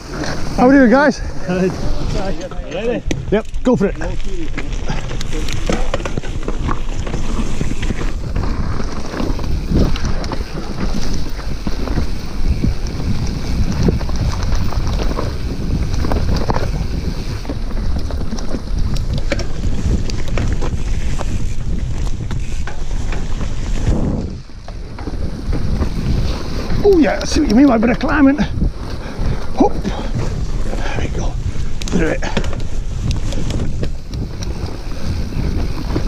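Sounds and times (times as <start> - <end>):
bike rattling and knocking: 0.0 - 36.0
bike tyre rumble: 0.0 - 36.0
wind buffeting microphone: 0.0 - 36.0.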